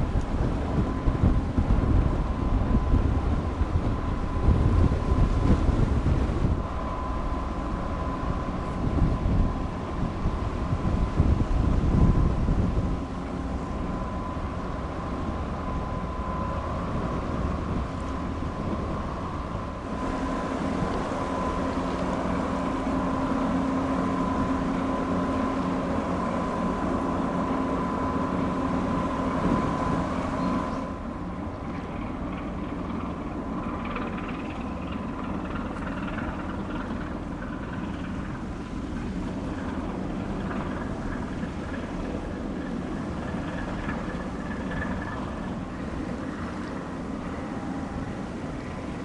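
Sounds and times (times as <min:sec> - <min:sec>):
ship engines droning: 0:00.0 - 0:49.0.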